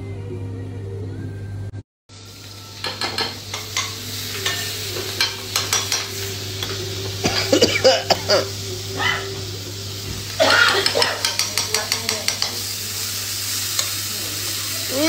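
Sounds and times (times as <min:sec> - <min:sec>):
paste sizzling in oil: 0:02.1 - 0:15.0
utensil scraping wok: 0:02.2 - 0:15.0.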